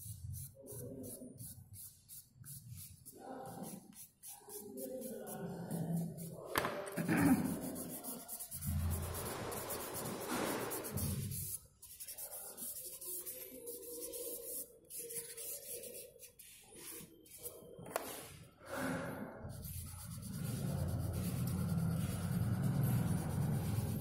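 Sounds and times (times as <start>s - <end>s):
charcoal scratching on paper: 0.0s - 18.3s, 19.5s - 24.0s.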